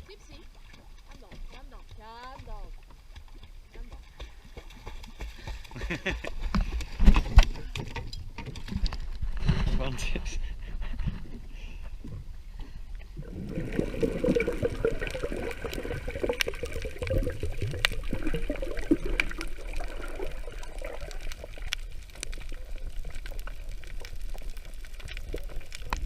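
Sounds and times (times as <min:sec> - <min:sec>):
water gurgling and sloshing: 0:00.0 - 0:26.0.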